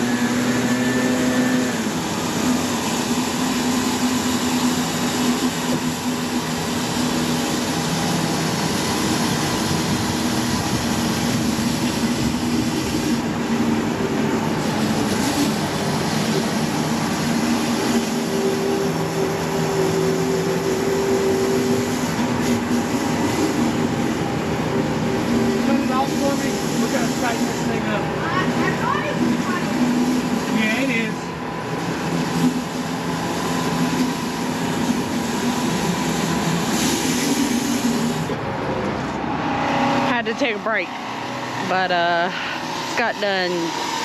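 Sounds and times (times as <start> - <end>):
high-pressure water jet hissing: 0.0 - 38.6, 39.2 - 44.0
pressure washer engine humming: 0.0 - 44.0.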